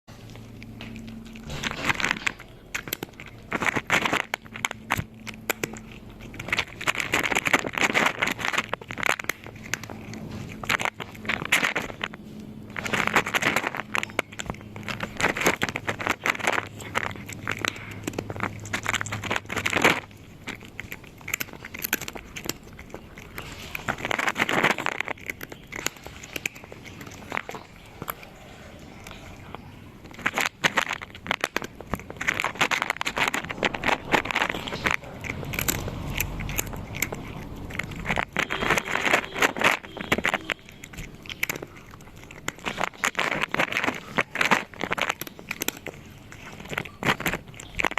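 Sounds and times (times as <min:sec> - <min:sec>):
cat crunching snack: 0:00.0 - 0:47.9.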